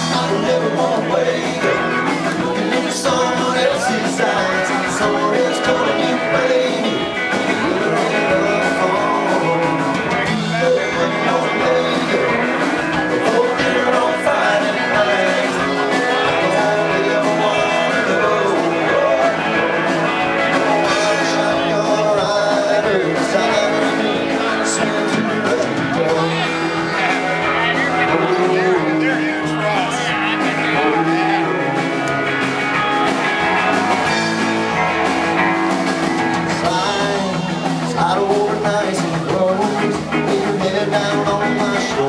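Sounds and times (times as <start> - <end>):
live country-rock band: 0.0 - 42.0.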